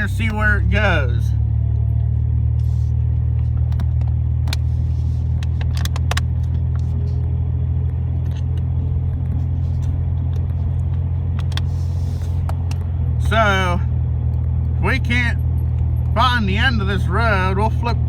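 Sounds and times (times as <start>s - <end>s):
road noise: 0.0s - 18.0s
truck engine droning: 0.0s - 18.0s.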